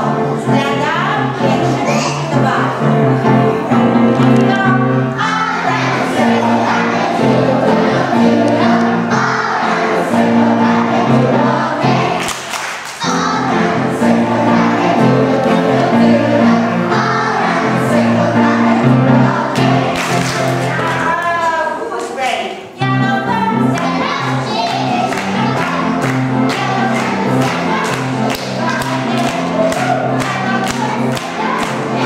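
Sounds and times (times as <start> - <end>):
children singing together: 0.0 - 21.2, 22.9 - 32.0
musical accompaniment: 0.0 - 21.5, 22.6 - 32.0.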